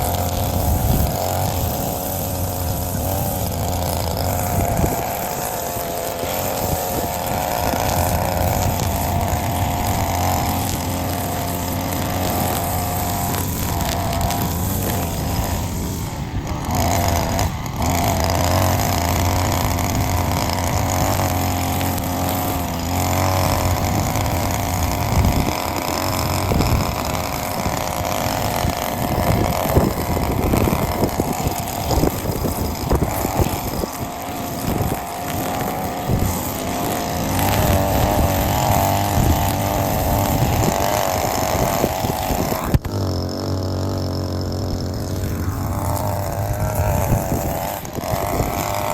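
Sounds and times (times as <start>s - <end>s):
lawn mower cutting grass: 0.0s - 48.9s.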